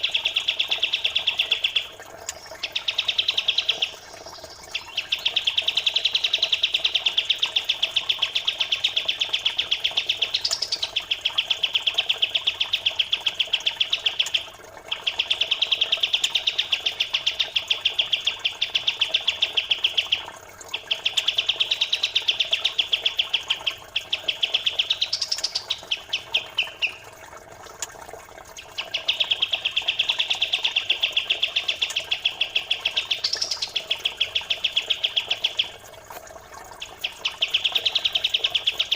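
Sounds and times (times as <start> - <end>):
songbird chattering song: 0.0 - 27.1, 28.8 - 35.8, 36.8 - 38.9
trickle of running water: 0.0 - 38.9.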